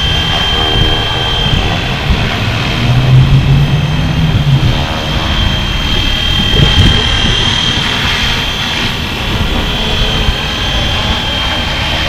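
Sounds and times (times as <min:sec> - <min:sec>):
electric motor high whine: 0:00.0 - 0:12.0
helicopter rotor hum: 0:00.0 - 0:12.0.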